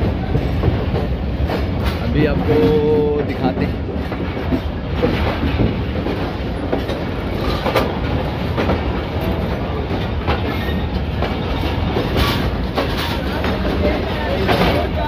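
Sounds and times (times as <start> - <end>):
train coaches rumbling: 0.0 - 15.0
wheel clacks over rail joints: 0.0 - 15.0.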